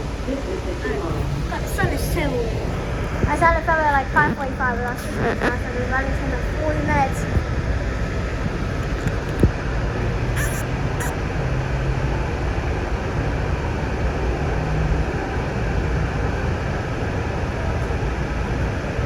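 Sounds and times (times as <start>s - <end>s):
train rumble and motor hum: 0.0s - 19.0s.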